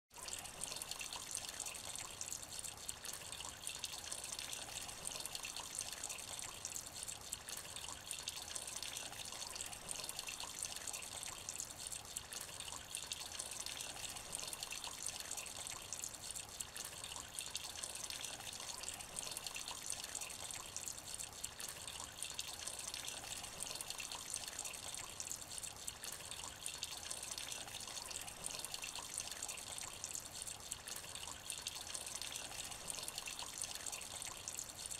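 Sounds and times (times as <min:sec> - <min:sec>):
rain splashing into a puddle: 0:00.1 - 0:34.9.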